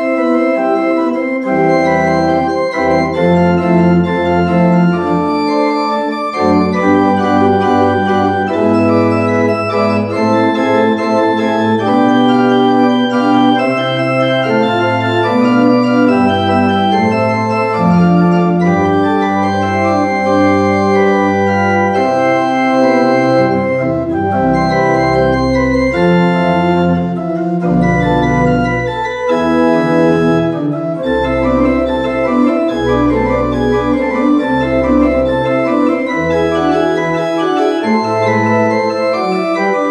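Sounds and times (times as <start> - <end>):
deep organ pedal notes: 0.0 - 39.9
pipe organ sustained chords: 0.0 - 39.9.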